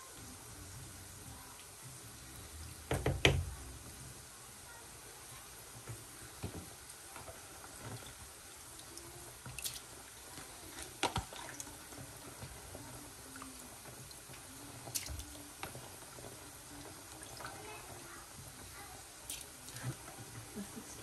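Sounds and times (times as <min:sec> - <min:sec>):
water bubbling faintly: 0:00.0 - 0:21.0.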